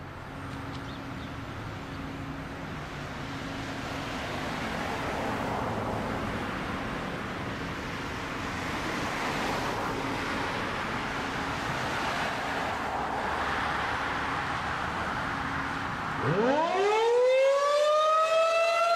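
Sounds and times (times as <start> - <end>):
traffic engine hum: 0.0 - 18.9
wind: 0.0 - 18.9.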